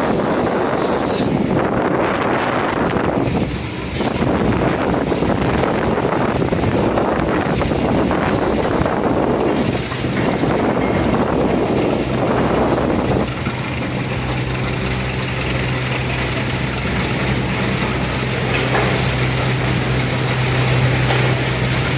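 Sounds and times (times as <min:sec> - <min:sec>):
blower motor humming: 0:00.0 - 0:21.9
rushing air: 0:00.0 - 0:21.9.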